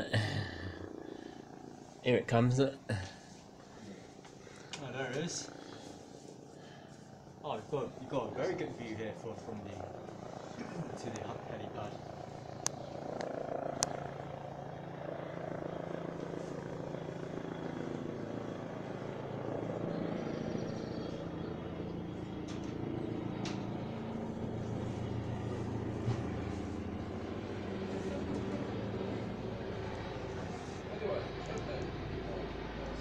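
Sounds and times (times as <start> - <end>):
helicopter rotor and engine: 0.0 - 33.0.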